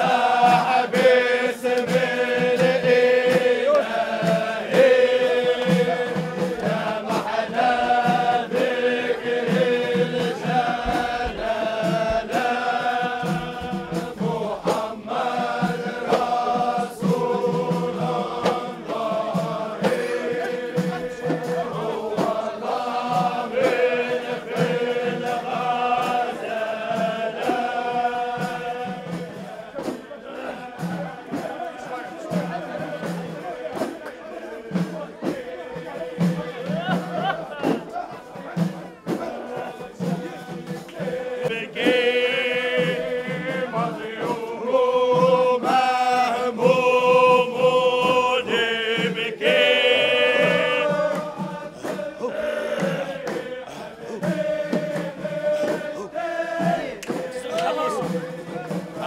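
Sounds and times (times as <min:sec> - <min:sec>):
frame drums beating: 0:00.0 - 0:59.0
men's chorus chanting: 0:00.0 - 0:59.0.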